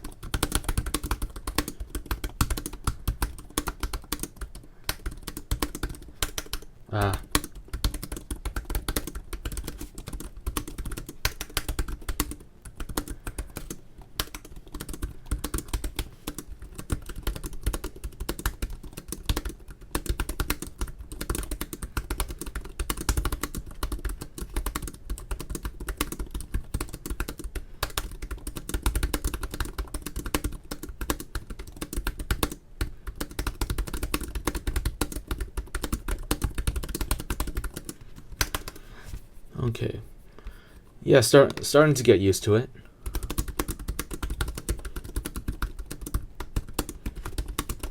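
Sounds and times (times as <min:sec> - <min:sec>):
fast laptop keyboard typing: 0:00.0 - 0:38.8, 0:43.0 - 0:47.9.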